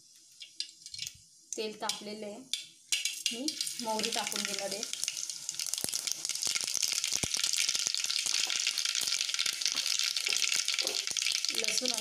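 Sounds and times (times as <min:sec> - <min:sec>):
seeds sizzling and popping in oil: 0:00.0 - 0:12.0.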